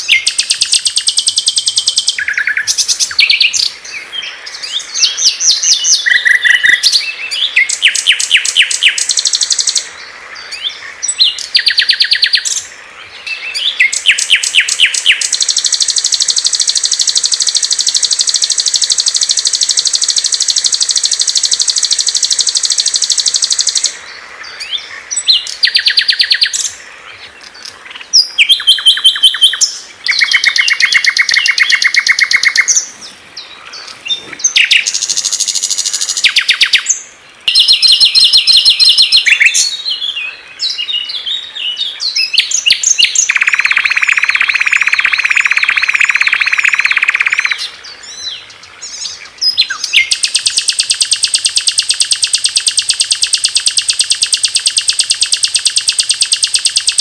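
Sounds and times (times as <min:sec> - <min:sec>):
songbirds singing trills: 0:00.0 - 0:57.0.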